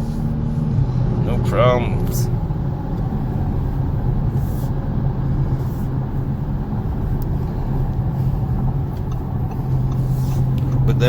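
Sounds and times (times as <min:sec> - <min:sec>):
car engine hum: 0:00.0 - 0:11.0
road and tyre noise: 0:00.0 - 0:11.0.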